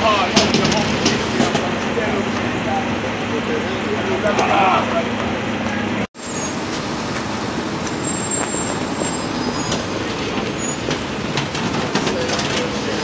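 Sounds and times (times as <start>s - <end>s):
city street traffic: 0.0s - 13.0s
garbage truck engine running: 0.0s - 13.0s.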